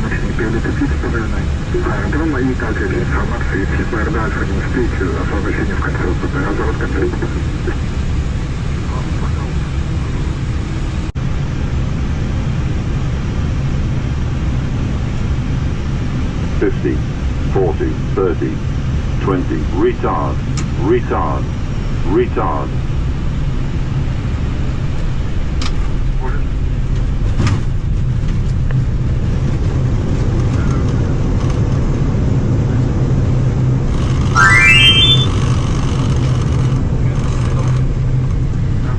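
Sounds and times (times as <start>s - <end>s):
aircraft engines running: 0.0s - 34.4s
airliner cockpit low rumble: 0.0s - 38.9s.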